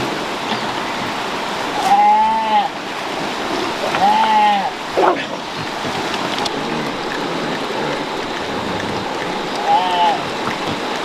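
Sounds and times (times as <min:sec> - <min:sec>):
water rushing: 0:00.0 - 0:11.0
voice calling: 0:01.8 - 0:10.8.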